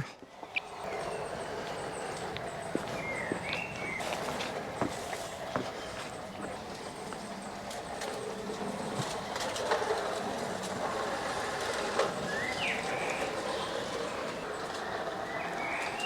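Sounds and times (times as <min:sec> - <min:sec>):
wheels clicking over rail joints: 0:00.0 - 0:16.0
model train motor hum: 0:00.4 - 0:16.0.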